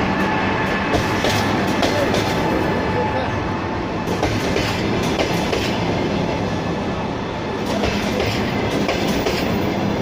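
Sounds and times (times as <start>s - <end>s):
train carriages rumbling: 0.0s - 10.0s.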